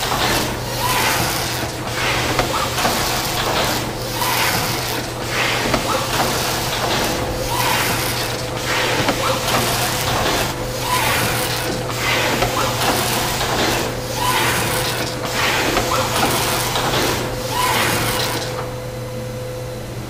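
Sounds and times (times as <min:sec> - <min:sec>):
box making machinery running: 0:00.0 - 0:19.2.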